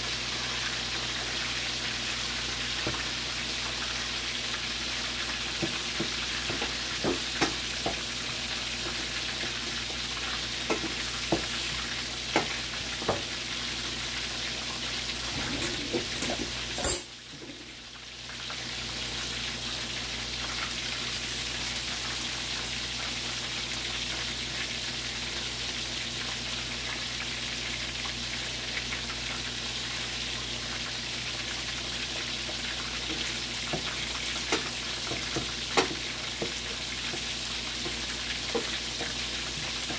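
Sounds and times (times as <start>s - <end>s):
chicken frying in hot oil: 0.0s - 39.9s.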